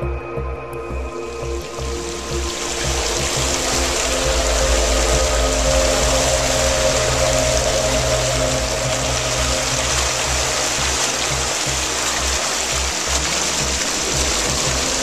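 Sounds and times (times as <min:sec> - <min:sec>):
background music with bass line: 0:00.0 - 0:15.0
rushing water: 0:00.0 - 0:15.0.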